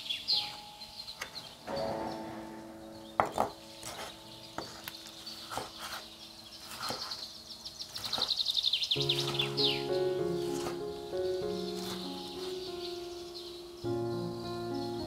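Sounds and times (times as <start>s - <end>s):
soft music with held notes: 0.0s - 8.1s, 8.8s - 15.0s
birds chirping: 0.0s - 15.0s.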